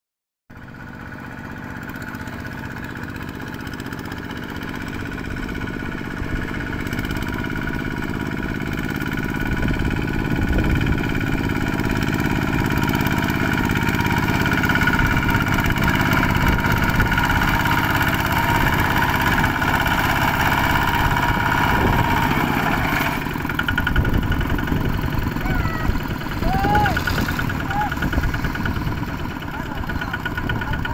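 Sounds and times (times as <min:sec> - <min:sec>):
diesel tractor engine running: 0:00.6 - 0:30.9.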